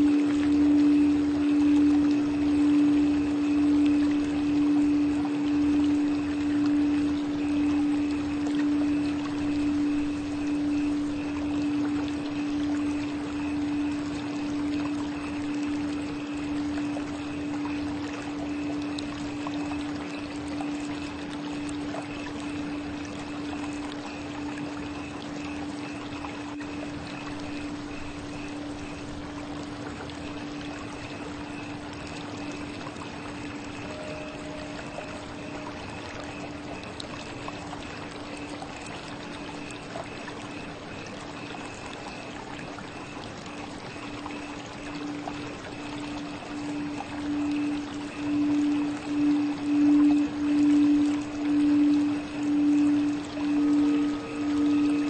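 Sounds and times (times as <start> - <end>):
flowing water: 0.0 - 55.0
singing bowl ringing tone: 0.0 - 55.0.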